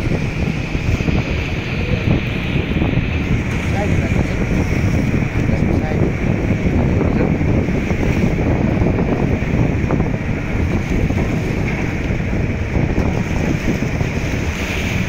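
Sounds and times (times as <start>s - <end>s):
sea noise: 0.0s - 15.0s
wind buffeting microphone: 0.0s - 15.0s.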